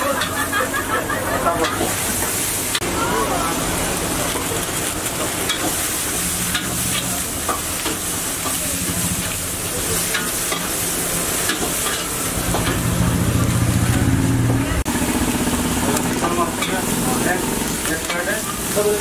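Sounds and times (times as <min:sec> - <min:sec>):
food sizzling on a griddle: 0:00.0 - 0:19.0.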